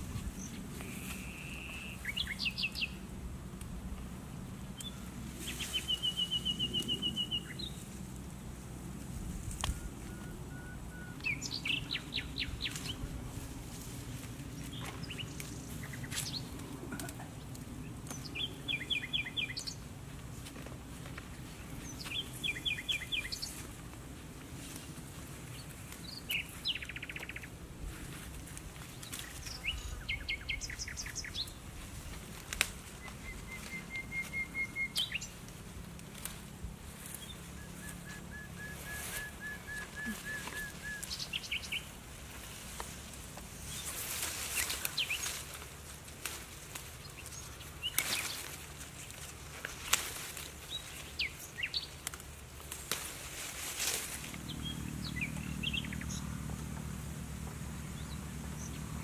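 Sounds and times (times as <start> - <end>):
birds calling: 0.0 - 3.1, 4.7 - 8.0, 9.6 - 13.1, 14.0 - 19.9, 21.2 - 23.8, 25.4 - 27.6, 28.4 - 42.4, 43.3 - 53.1, 53.7 - 59.0
rustling of leafy plants: 0.0 - 59.0.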